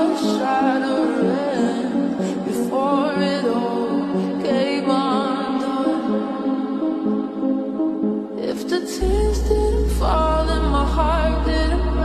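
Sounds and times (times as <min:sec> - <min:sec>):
song with sung melody: 0:00.0 - 0:12.0.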